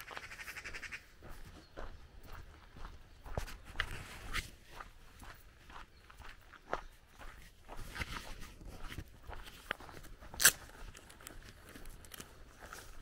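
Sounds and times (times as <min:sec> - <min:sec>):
footsteps crunching on gravel: 0:01.2 - 0:13.0.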